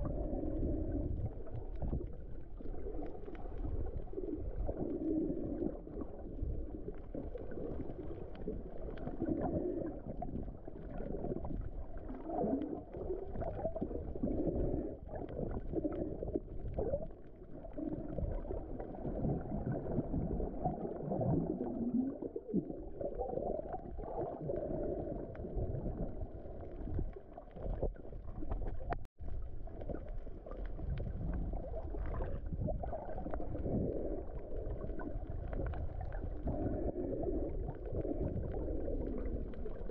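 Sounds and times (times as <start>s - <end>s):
underwater low rumble: 0.0s - 39.9s
water gurgling: 0.0s - 39.9s.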